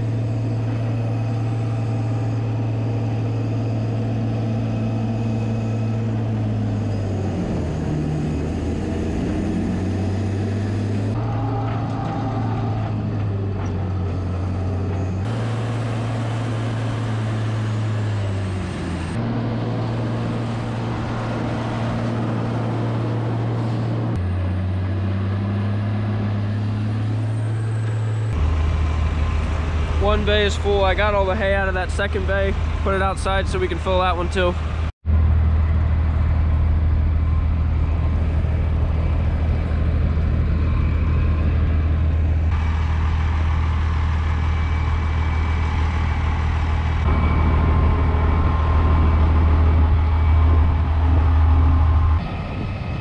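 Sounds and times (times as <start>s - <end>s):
skid-steer loader engine: 0.0s - 53.0s.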